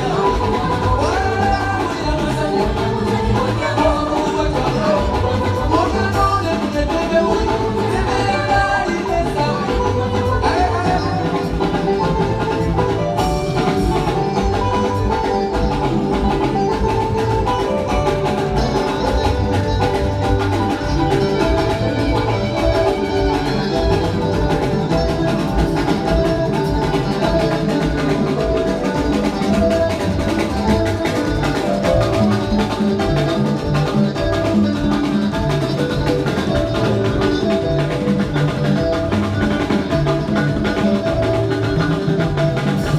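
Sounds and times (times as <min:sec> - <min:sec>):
upbeat instrumental band music: 0:00.0 - 0:42.9.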